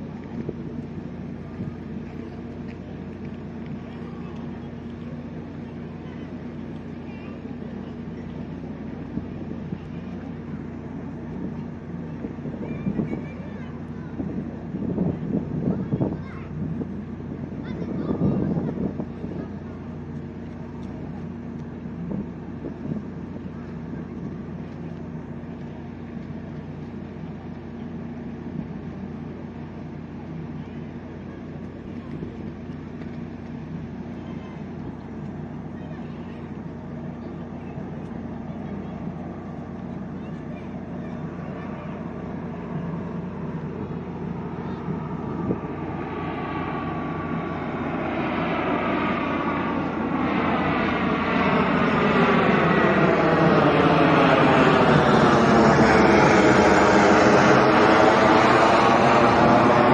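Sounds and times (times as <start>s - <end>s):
faint hum: 0.0s - 59.9s
low mechanical drone: 0.0s - 59.9s
turboprop aircraft flyover: 0.0s - 59.9s.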